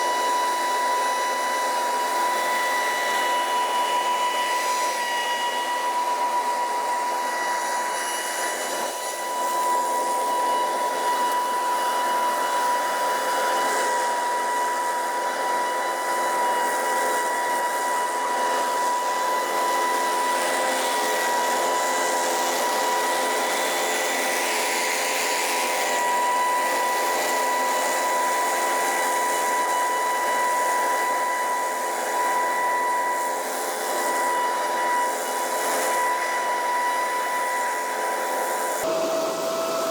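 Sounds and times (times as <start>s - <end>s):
leaf blower fan whine: 0.0s - 39.9s.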